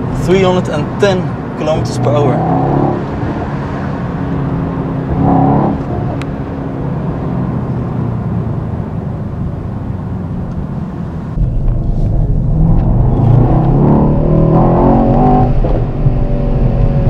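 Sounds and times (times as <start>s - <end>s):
car engine from inside cabin: 0.0s - 17.0s
road noise: 0.0s - 17.0s.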